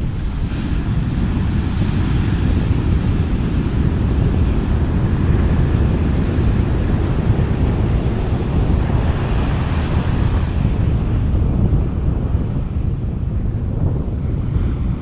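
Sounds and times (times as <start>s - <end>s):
sea waves washing onto beach: 0.0s - 15.0s
wind rumbling on microphone: 0.0s - 15.0s.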